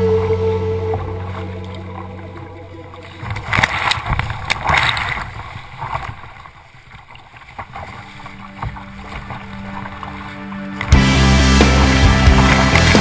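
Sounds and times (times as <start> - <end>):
sea water splashing over kayak: 0.0 - 13.0.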